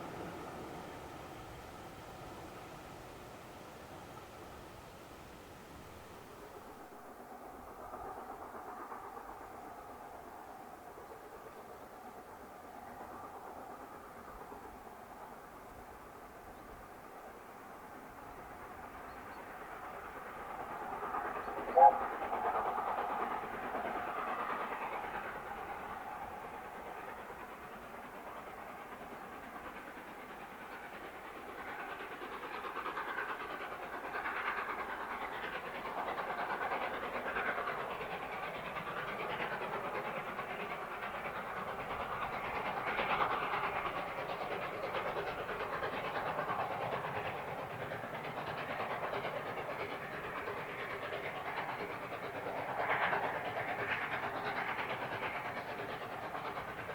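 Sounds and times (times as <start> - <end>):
steam hissing: 0.0 - 56.9
train wheels clattering on track: 0.0 - 56.9.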